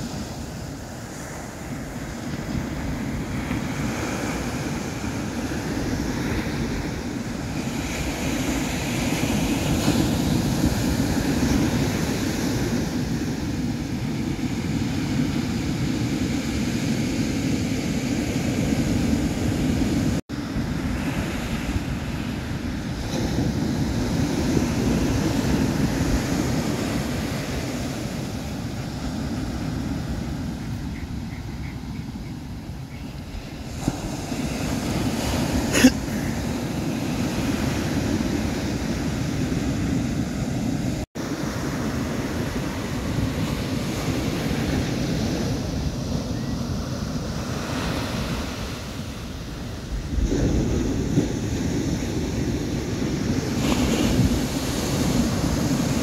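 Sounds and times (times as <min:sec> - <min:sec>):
ocean surf breaking: 0:00.0 - 0:56.0
wind buffeting microphone: 0:00.0 - 0:56.0.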